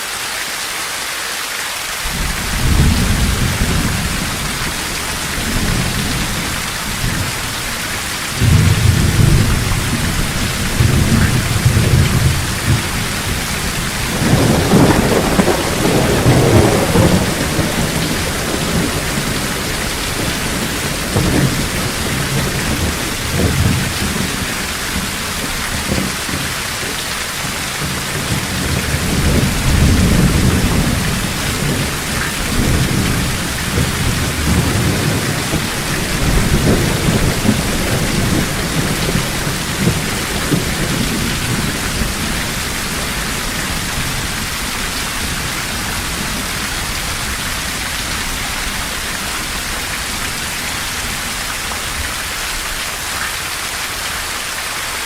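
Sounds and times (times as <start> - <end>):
heavy rain: 0.0 - 55.0
thunder rumbling: 2.1 - 52.2.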